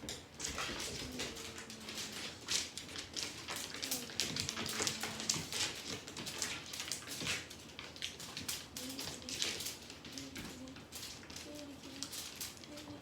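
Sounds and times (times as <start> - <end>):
rustling and scratching: 0.0 - 13.0.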